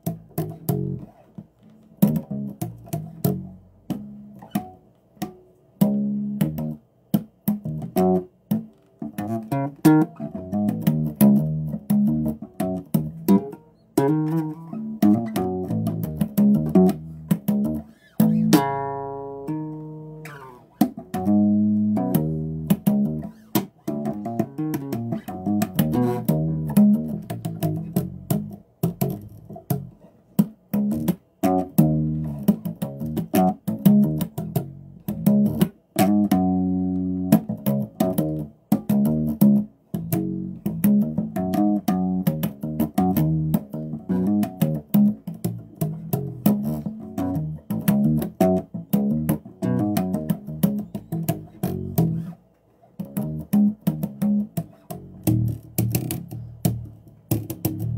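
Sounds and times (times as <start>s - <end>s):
bass guitar plucked notes: 0.0s - 52.4s, 53.0s - 57.9s.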